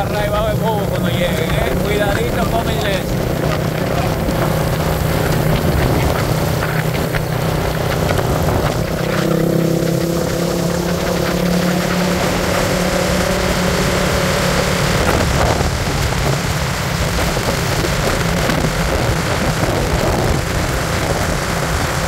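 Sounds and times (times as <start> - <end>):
rushing wind noise: 0.0 - 22.0
vehicle engine running: 0.0 - 22.0.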